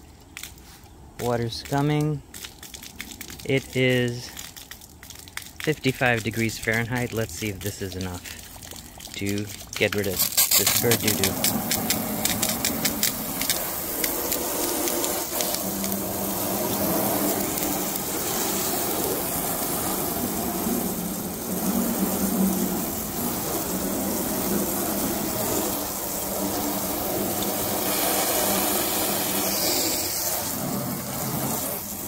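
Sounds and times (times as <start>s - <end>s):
hose water spraying on car: 0.6s - 32.0s.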